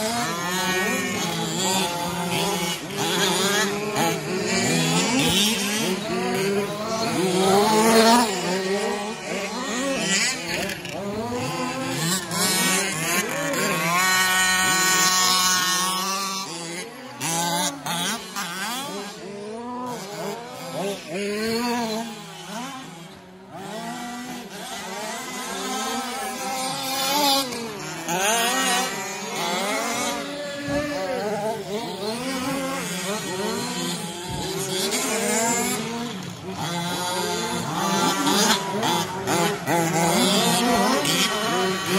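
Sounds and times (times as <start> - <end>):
small two-stroke engines revving: 0.0 - 41.9.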